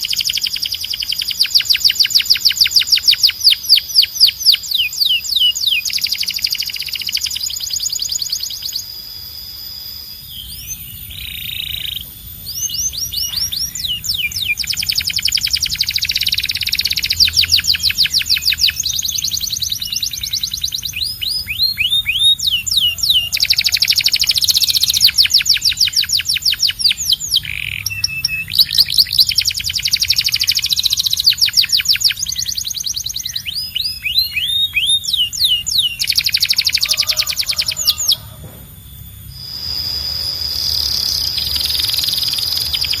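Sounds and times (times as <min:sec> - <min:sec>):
canary singing trills: 0:00.0 - 0:43.0.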